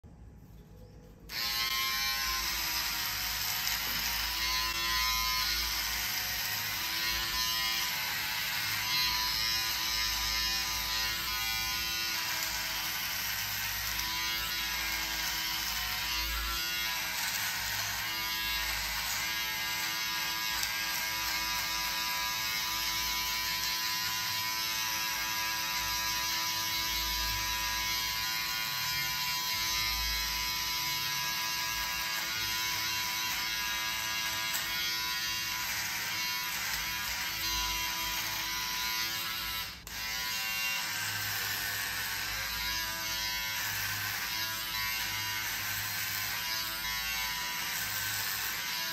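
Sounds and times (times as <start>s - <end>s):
electric beard trimmer humming: 1.3s - 48.9s.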